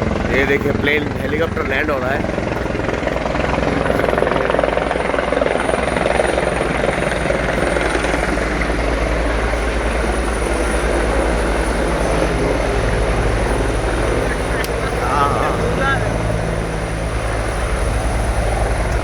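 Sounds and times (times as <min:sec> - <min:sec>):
helicopter rotor blades beating: 0:00.0 - 0:19.0
high helicopter whine: 0:00.0 - 0:19.0.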